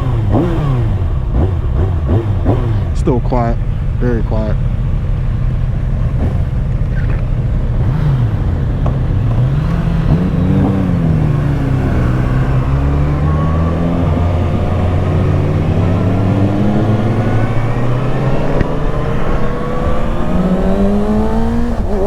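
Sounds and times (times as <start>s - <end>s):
motorcycle engine running: 0.0s - 22.0s
low rush: 1.0s - 22.0s.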